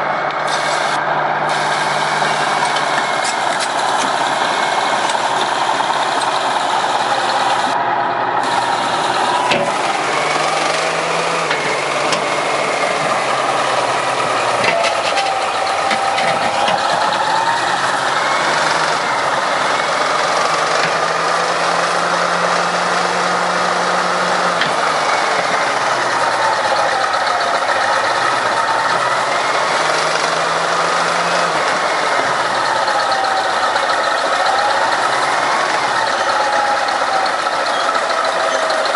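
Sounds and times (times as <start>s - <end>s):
diesel construction machinery: 0.0s - 38.9s.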